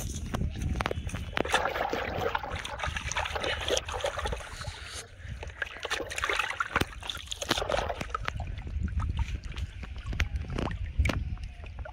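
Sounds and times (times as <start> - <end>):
fish splashing in water: 1.0 - 11.9.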